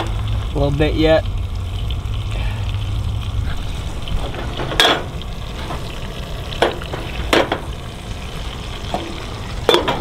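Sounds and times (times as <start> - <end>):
fish sizzling in a saucepan: 0.0 - 10.0.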